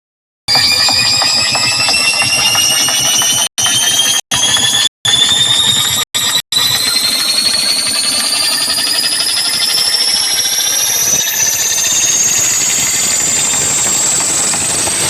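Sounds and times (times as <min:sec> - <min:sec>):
electronic riser tone gliding upward: 0:00.5 - 0:15.0.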